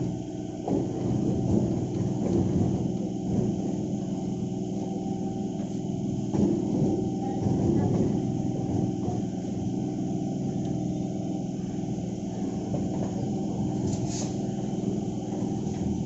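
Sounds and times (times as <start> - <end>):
train motors and wheels humming: 0.0 - 16.0.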